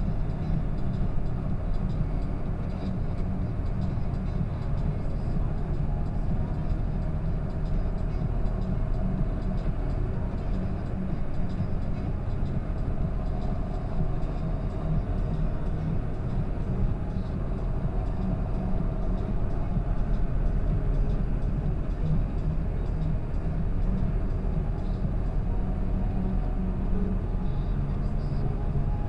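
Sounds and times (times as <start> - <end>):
tractor diesel engine drone: 0.0 - 29.0.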